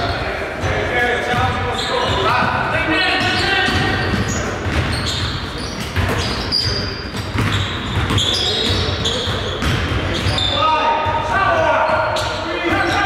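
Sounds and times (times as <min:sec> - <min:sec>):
basketball bouncing on gym court: 0:00.0 - 0:13.0.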